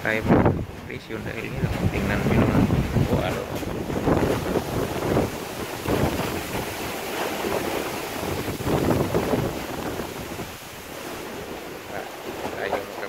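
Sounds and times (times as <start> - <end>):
waves washing against boat hull: 0.0 - 13.0
wind buffeting the microphone: 0.0 - 13.0.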